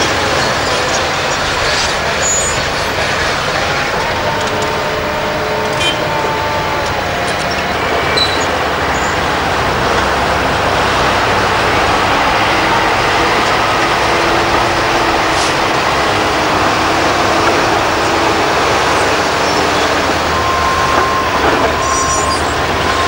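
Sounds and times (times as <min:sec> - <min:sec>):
heavy diesel engines running: 0:00.0 - 0:23.0.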